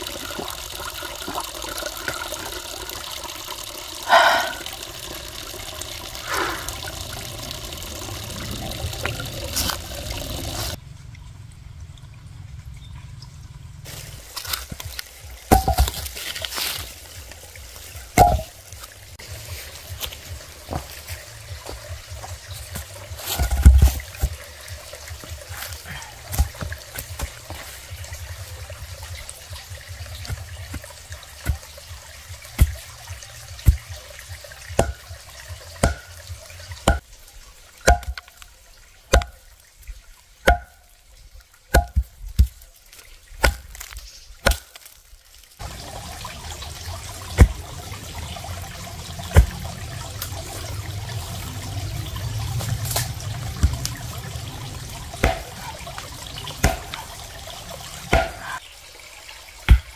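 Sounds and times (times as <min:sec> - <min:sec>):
water trickling and pouring: 0:00.0 - 0:59.9.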